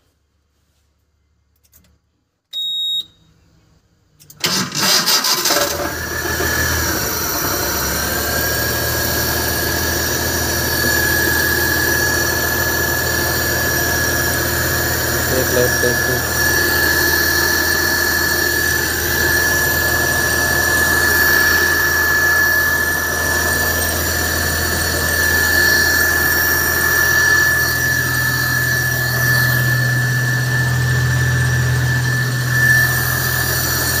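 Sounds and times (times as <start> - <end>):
high-pitched squeal: 4.5 - 34.0.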